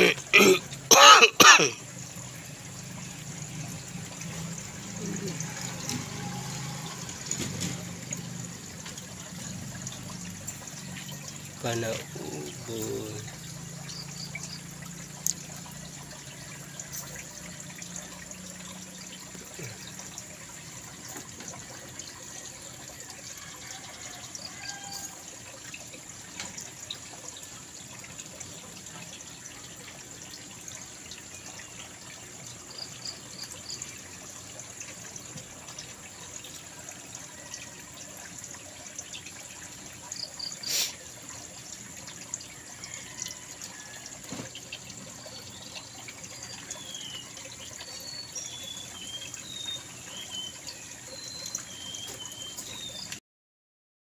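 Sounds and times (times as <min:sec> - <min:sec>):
water trickling through pipes: 0:00.0 - 0:53.2.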